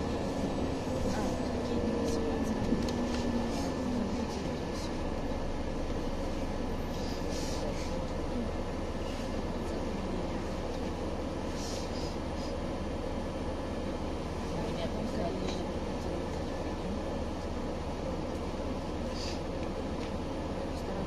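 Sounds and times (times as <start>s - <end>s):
bus engine hum: 0.0s - 21.0s.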